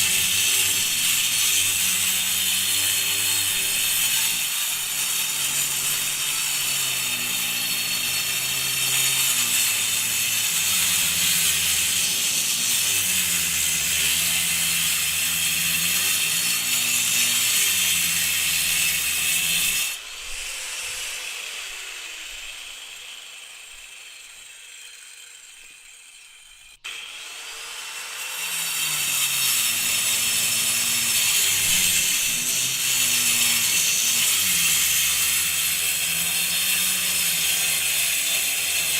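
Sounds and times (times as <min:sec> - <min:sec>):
angle grinder cutting concrete: 0:00.0 - 0:38.9.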